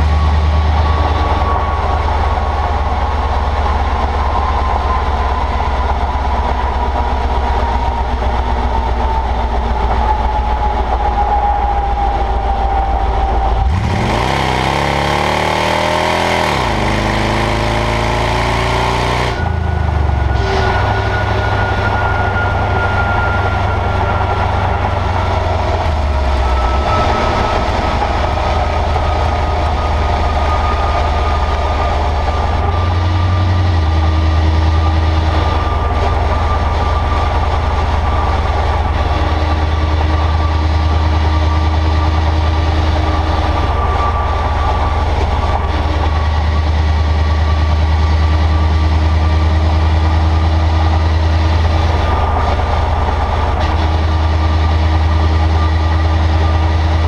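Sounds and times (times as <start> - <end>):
engine and exhaust rumble: 0.0 - 57.0
loud rushing noise: 0.0 - 57.0
road and tyre noise: 0.0 - 57.0.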